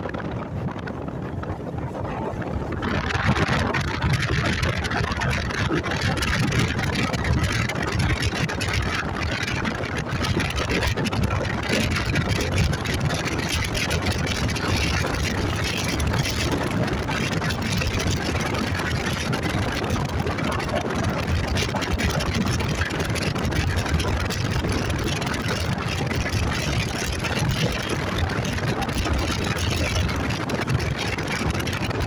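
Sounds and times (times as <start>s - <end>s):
wind rush on microphone: 0.0s - 32.0s.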